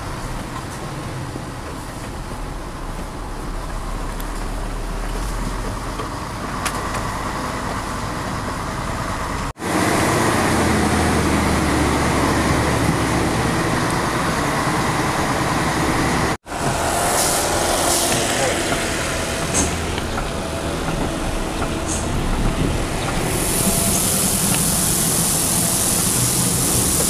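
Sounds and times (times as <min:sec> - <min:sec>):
truck engine: 0:00.0 - 0:27.0.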